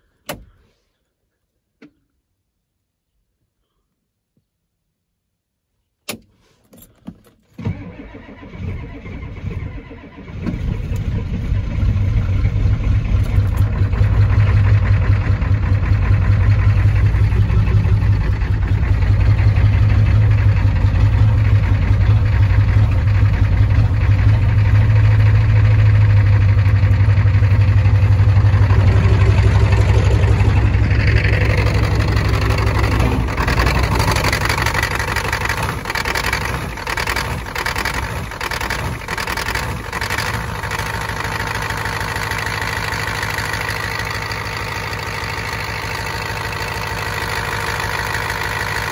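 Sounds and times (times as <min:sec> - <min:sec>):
diesel engine cranking: 0:06.8 - 0:48.9
diesel engine idling: 0:07.7 - 0:48.9.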